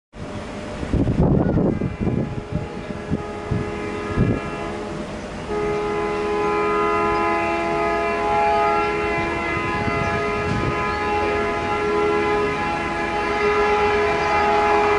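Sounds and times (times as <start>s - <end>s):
train rumbling at speed: 0.2s - 14.9s
train horn: 0.5s - 14.9s.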